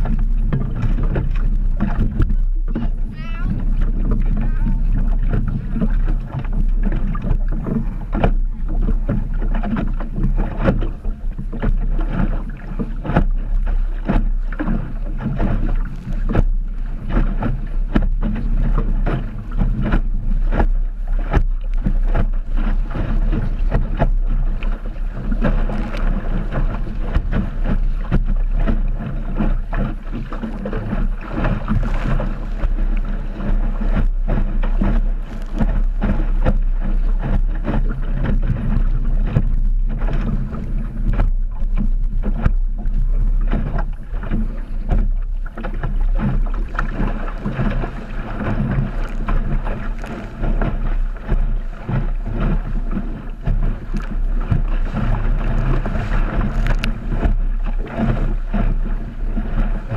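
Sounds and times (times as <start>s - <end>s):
constant low rumble: 0.0s - 59.9s
water slapping against hull: 0.0s - 59.9s
wind buffeting microphone: 0.0s - 59.9s.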